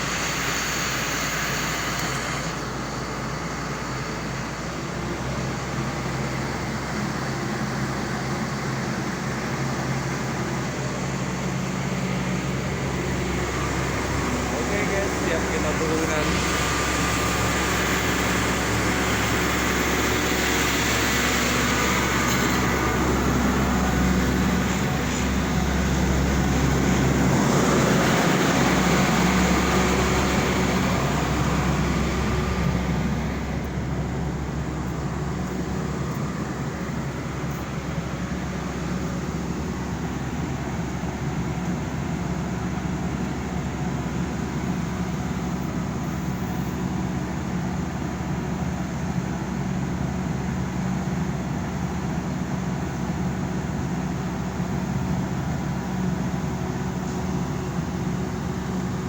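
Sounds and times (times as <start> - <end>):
machinery humming: 0.0 - 59.0.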